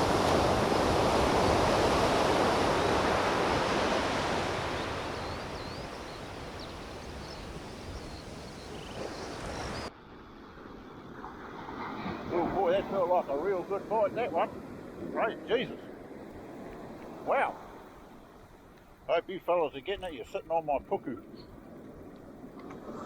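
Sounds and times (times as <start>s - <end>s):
surf breaking on beach: 0.0s - 23.0s.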